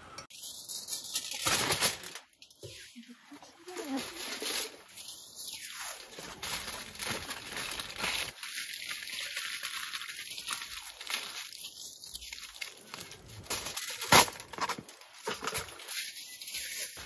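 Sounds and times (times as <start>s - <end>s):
rustling and crinkling: 0.4s - 17.0s.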